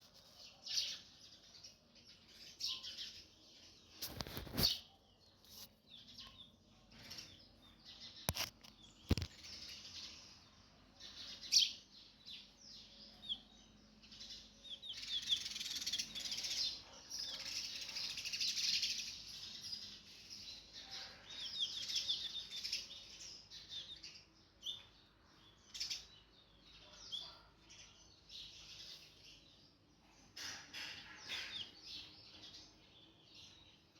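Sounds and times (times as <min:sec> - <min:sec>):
birds chirping and twittering: 0:00.0 - 0:33.9.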